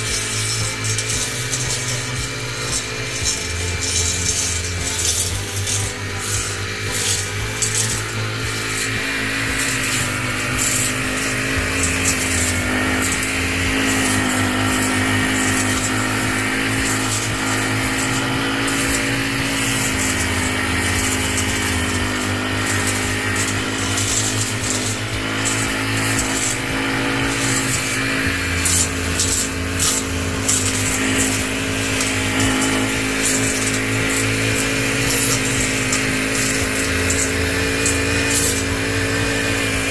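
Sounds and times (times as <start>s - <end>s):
crackling of cut growth: 0.0s - 39.9s
garden trimmer motor running: 0.0s - 39.9s.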